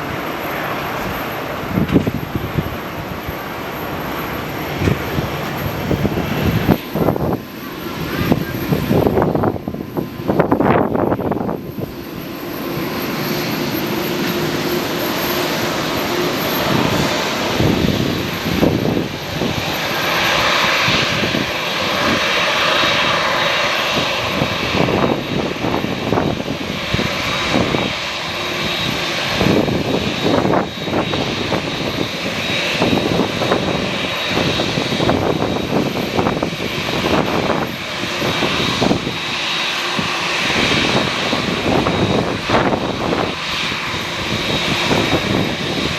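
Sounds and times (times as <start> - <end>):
aircraft engines running: 0.0 - 45.9
wind buffeting microphone: 0.8 - 45.9.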